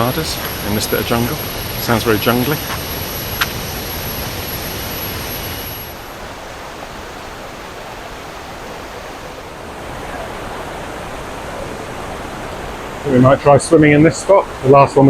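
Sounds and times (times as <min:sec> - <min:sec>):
cicadas droning: 0:00.0 - 0:14.0
waterfall rushing water: 0:00.0 - 0:15.0.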